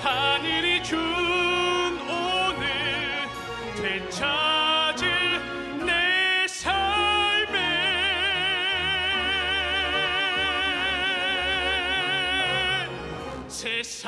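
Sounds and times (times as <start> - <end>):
instrumental accompaniment: 0.0 - 13.7
man singing a long high note: 0.0 - 14.0.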